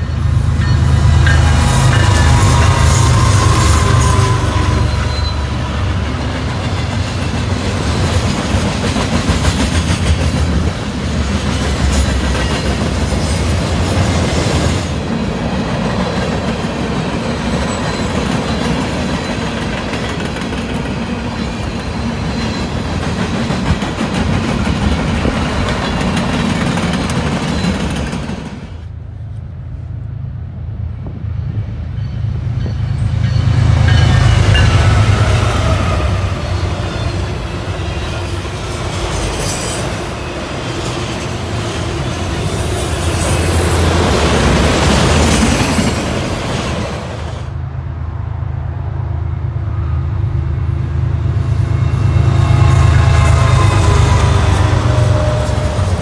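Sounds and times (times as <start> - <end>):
approaching locomotives: 0.0 - 56.0
freight train wheels rumbling: 0.0 - 56.0.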